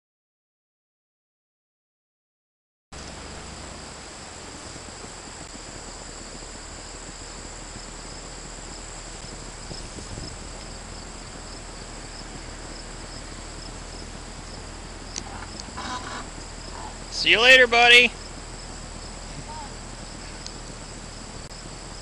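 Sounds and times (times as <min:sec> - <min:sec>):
insects chirping in grass: 0:03.0 - 0:22.0
low steady rumble: 0:03.0 - 0:22.0.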